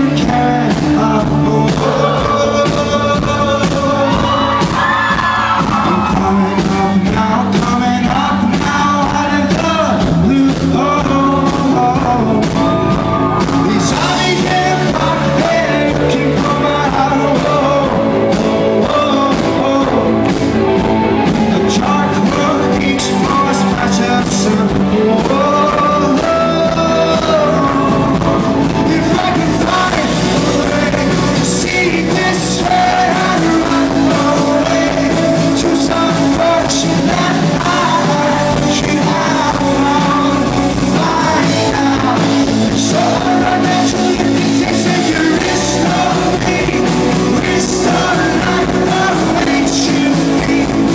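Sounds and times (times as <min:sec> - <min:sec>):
lead singer singing: 0:00.0 - 0:50.9
rock band playing loudly: 0:00.0 - 0:50.9.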